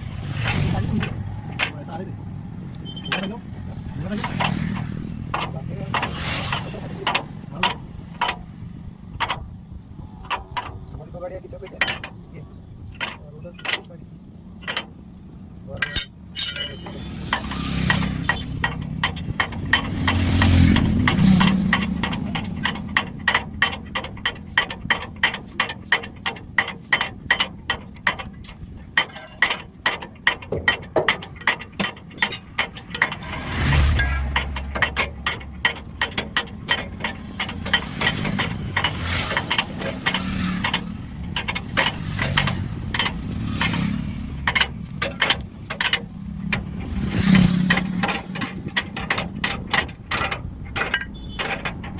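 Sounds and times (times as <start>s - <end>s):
sharp metallic clicks: 0.0s - 51.9s.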